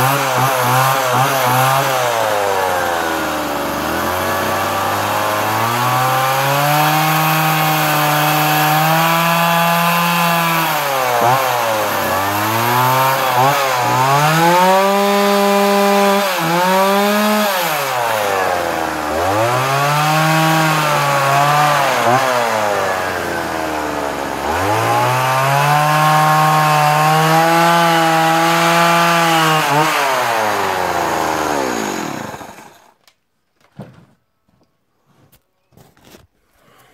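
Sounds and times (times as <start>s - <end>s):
chainsaw cutting wood: 0.0s - 33.2s.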